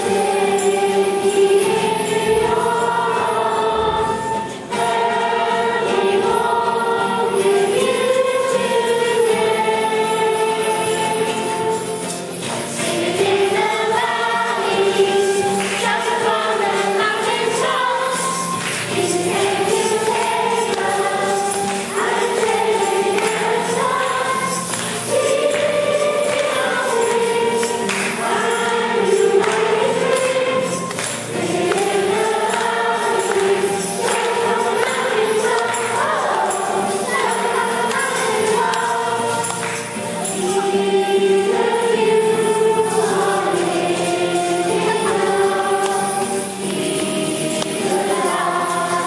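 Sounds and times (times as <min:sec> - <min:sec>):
choir singing a worship song: 0:00.0 - 0:49.0
shaken percussion: 0:00.0 - 0:49.0.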